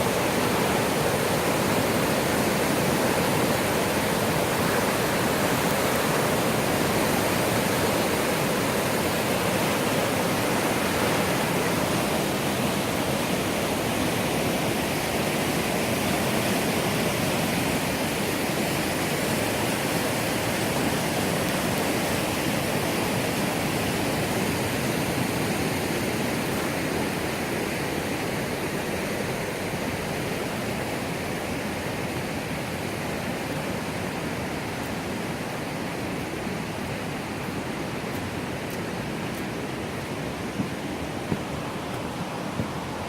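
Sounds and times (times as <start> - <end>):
rushing river rapids: 0.0 - 43.0.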